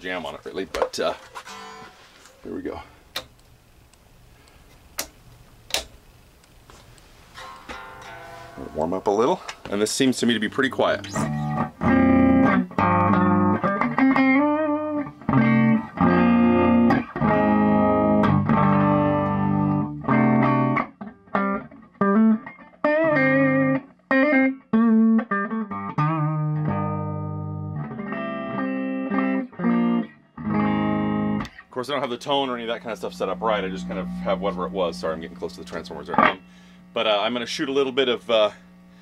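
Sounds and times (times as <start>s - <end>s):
electric guitar chords ringing: 7.4s - 39.0s.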